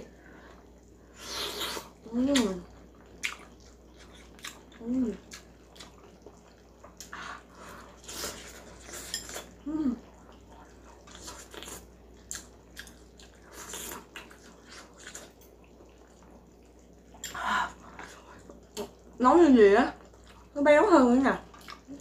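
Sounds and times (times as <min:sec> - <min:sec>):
chewing and smacking: 0:01.9 - 0:19.2, 0:20.0 - 0:20.6, 0:21.4 - 0:22.0.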